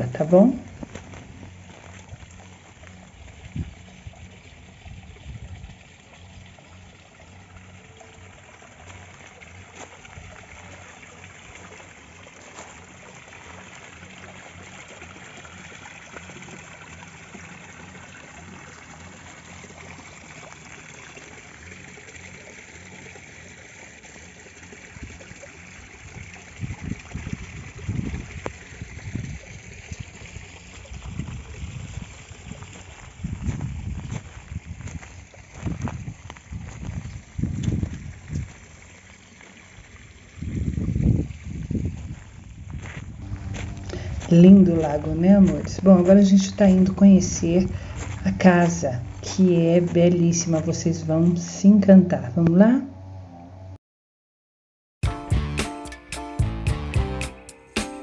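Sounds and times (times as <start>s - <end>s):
water trickling into pond: 0.0s - 53.4s.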